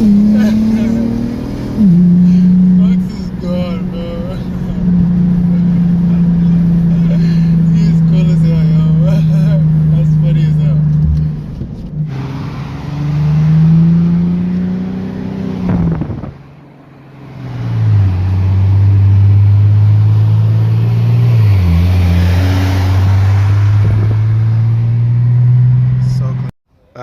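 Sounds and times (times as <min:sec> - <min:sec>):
car engine accelerating: 0:00.0 - 0:26.5.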